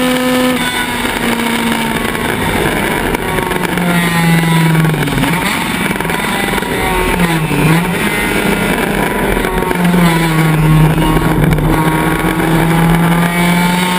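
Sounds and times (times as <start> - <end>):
race car engine at high revs: 0.0 - 13.9
wind and road noise: 0.0 - 13.9.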